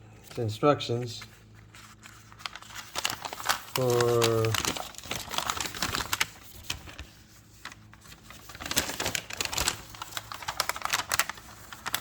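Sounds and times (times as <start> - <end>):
paper rustling and crinkling: 0.2 - 12.0.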